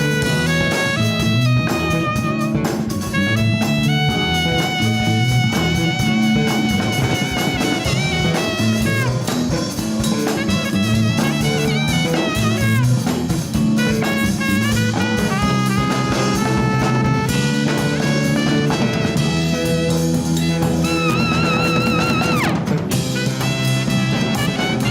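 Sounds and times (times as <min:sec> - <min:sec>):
bass: 0:00.0 - 0:24.9
drum kit: 0:00.0 - 0:24.9
latin jazz fusion band: 0:00.0 - 0:24.9
wavering lead melody: 0:00.0 - 0:24.9.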